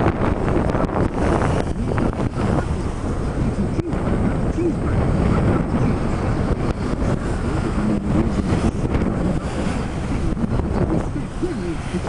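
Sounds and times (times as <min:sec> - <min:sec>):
water slapping along hull: 0:00.0 - 0:12.0
wind buffeting microphone: 0:00.0 - 0:12.0.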